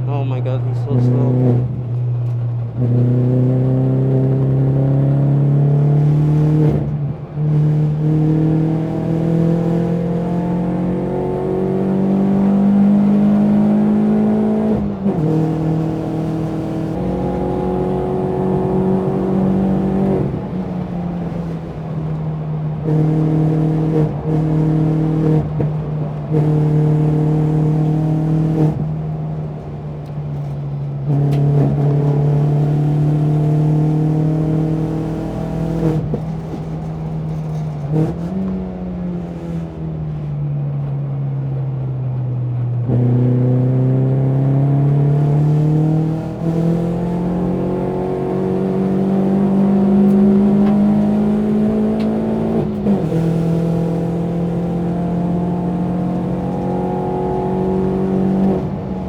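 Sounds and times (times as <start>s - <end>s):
race car engine running hard: 6.2s - 41.5s, 44.4s - 59.0s.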